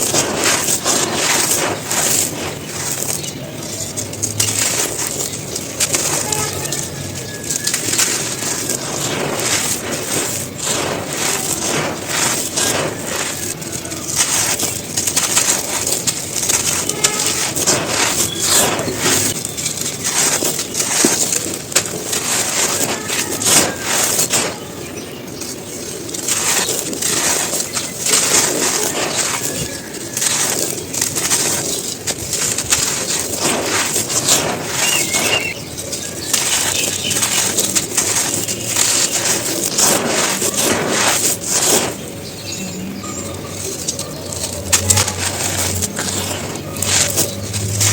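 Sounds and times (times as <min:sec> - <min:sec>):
cones being crushed: 0:00.0 - 0:47.9.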